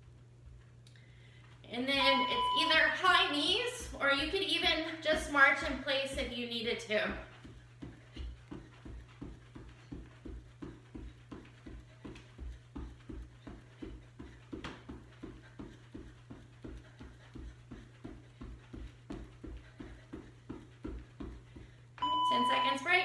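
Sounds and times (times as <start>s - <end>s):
steady low hum: 0.0s - 23.0s
feet jogging on a rug: 3.1s - 22.0s.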